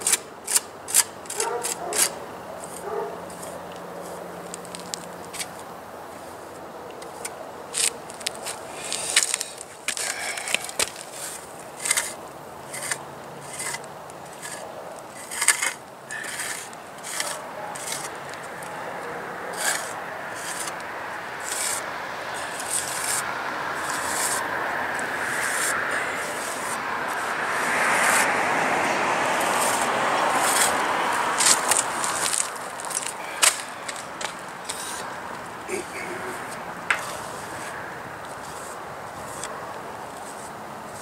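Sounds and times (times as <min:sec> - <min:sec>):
putty knife scraping cement: 0:00.0 - 0:04.8, 0:07.0 - 0:14.6, 0:15.2 - 0:18.6, 0:19.5 - 0:20.8, 0:21.4 - 0:21.8, 0:22.4 - 0:24.5, 0:25.2 - 0:28.3, 0:29.5 - 0:30.8, 0:31.4 - 0:41.0.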